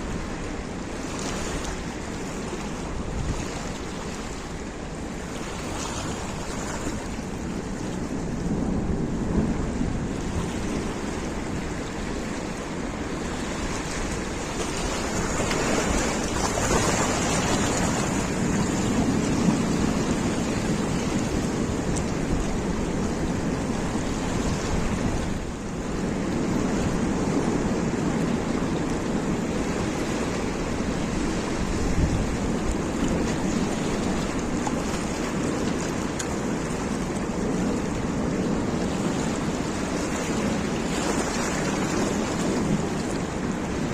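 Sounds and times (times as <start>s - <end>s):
sea surf washing in: 0.0s - 43.9s
wind buffeting microphone: 0.0s - 43.9s.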